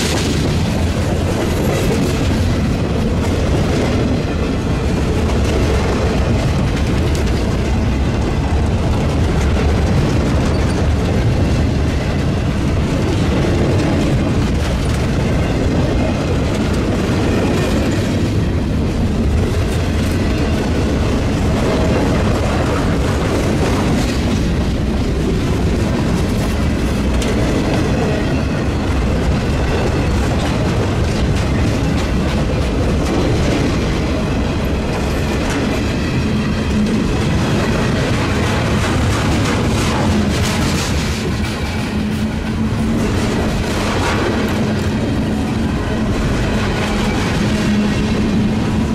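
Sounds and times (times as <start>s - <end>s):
freight train wheels rumbling: 0.0s - 48.9s.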